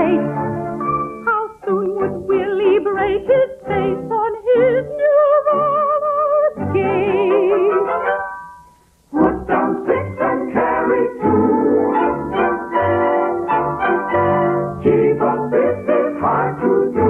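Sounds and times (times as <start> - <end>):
operetta singing with vibrato: 0.0 - 8.4, 9.1 - 17.0.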